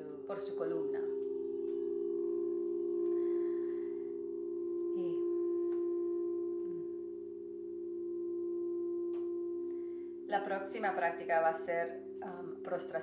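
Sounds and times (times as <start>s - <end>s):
crystal singing bowls: 0.0s - 13.0s.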